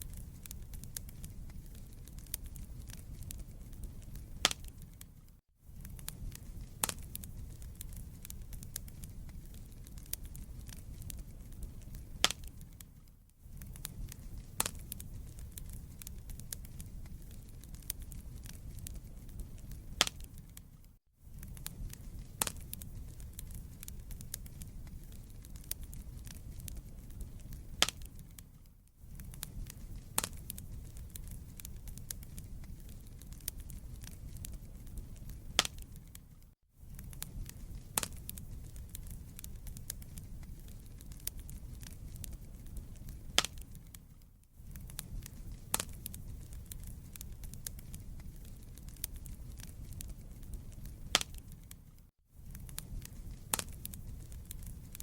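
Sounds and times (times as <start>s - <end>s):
wood fire burning: 0.0s - 55.0s.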